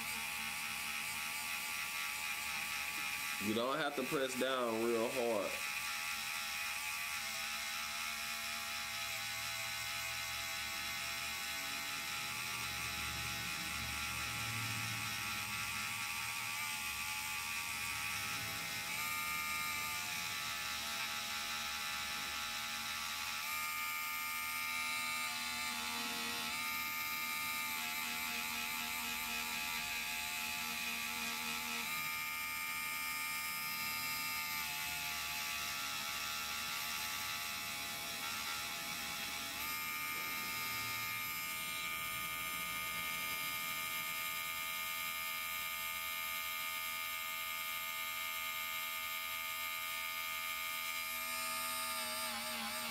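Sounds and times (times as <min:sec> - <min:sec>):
rotary tool motor whirring: 0:00.0 - 0:52.9.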